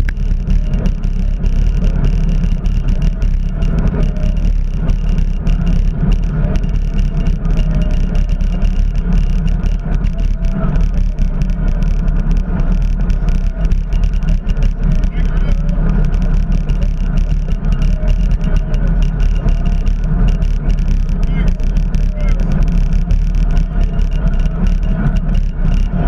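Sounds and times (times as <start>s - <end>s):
faint voices: 0.0s - 26.0s.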